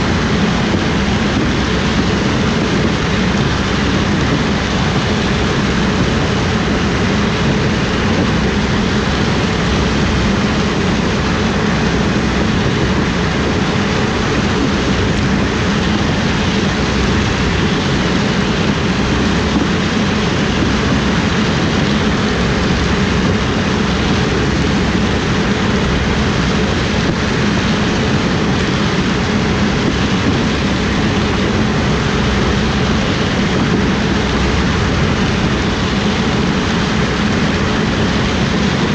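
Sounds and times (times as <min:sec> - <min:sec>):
heavy harvest machinery running: 0:00.0 - 0:38.9.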